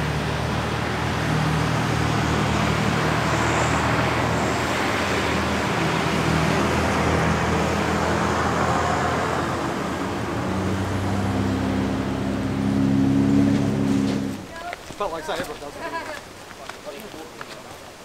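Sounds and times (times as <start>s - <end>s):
vehicles driving across a bridge: 0.0s - 18.0s.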